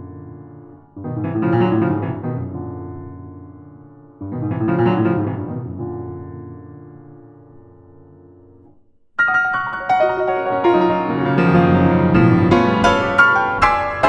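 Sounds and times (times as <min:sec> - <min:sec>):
grand piano playing: 0:00.0 - 0:14.0.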